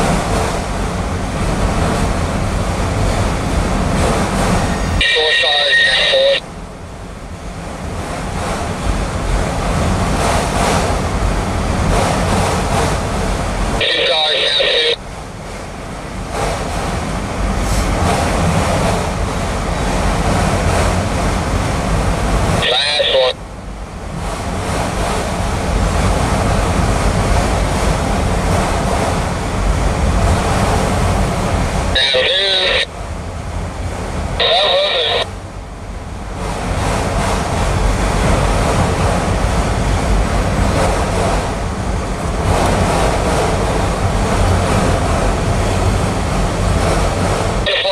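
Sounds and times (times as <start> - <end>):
freight train wheels on rail: 0.0 - 47.9.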